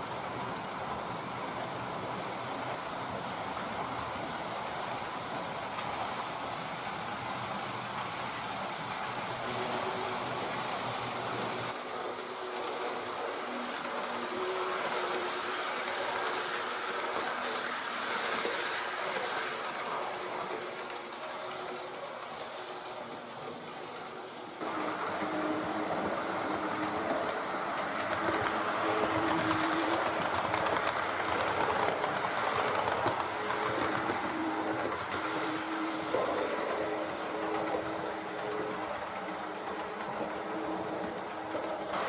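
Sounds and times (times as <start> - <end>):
wheels rattling on rails: 0.0 - 42.0.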